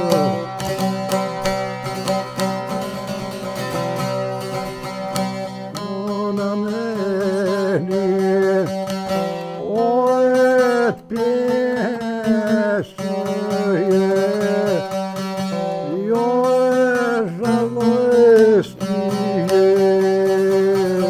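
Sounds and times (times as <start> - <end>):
man singing: 0.0 - 1.3, 5.3 - 21.0
long-necked lute strummed: 0.0 - 21.0.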